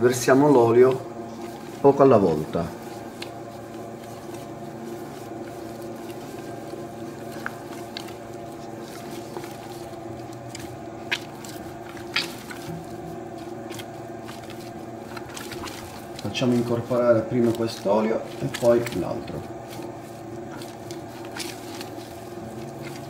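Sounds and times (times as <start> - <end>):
electric dough mixer running: 0.0 - 23.0
wet dough squishing: 0.0 - 23.0.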